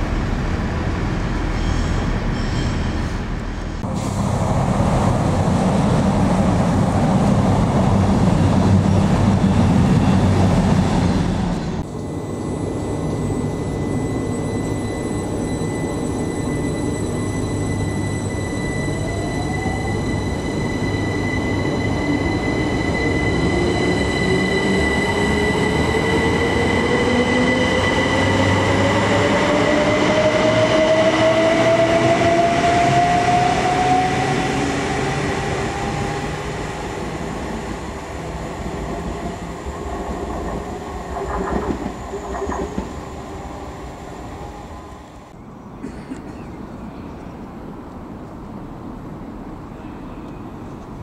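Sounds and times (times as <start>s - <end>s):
wheels rumbling on rail: 0.0s - 45.7s.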